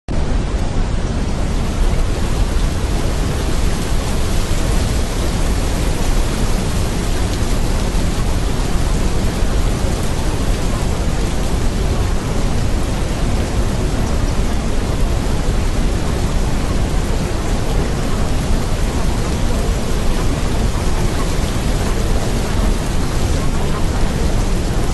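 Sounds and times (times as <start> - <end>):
steady rushing noise: 0.1 - 24.9.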